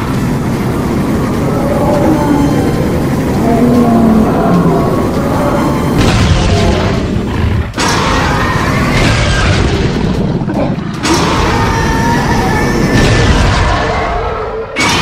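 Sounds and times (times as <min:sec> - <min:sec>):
cartoon booming and rumbling: 0:00.9 - 0:15.0.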